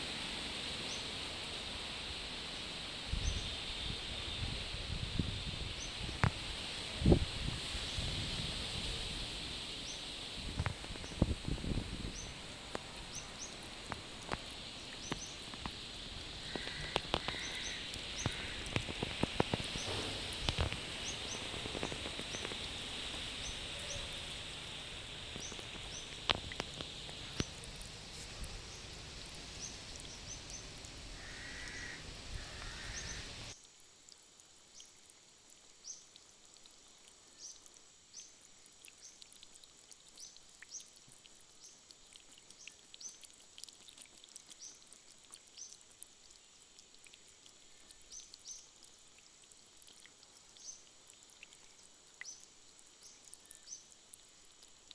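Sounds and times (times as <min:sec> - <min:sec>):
rain hiss: 0:00.0 - 0:54.9.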